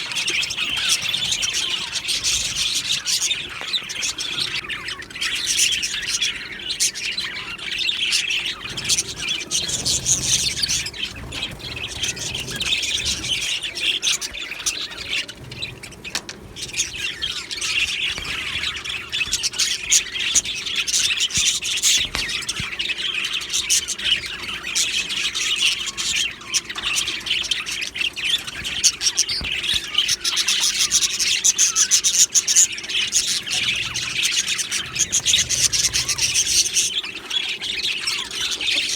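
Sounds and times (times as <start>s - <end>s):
bird squawks: 0.0s - 38.9s
budgerigars chirping and chattering: 0.0s - 38.9s.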